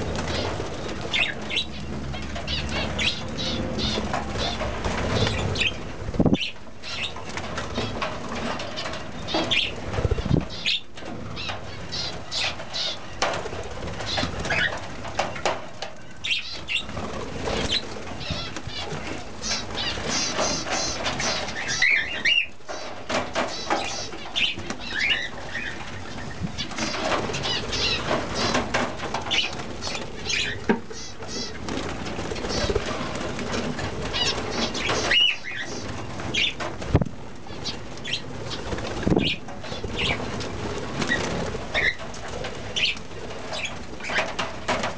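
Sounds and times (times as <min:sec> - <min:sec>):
small birds chirping and warbling: 0:00.0 - 0:44.9
wings flapping: 0:00.0 - 0:44.9.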